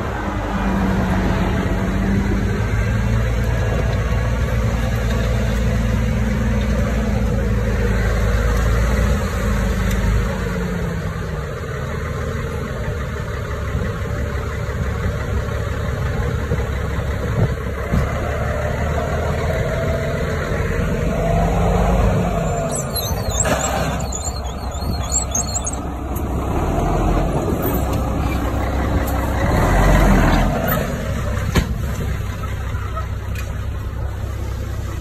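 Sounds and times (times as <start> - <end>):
dozer diesel engine running: 0.0 - 35.0.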